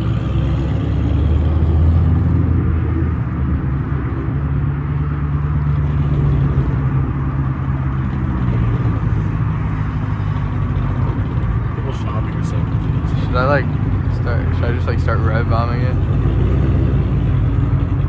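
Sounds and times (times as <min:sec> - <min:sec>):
car engine at low revs: 0:00.0 - 0:18.0.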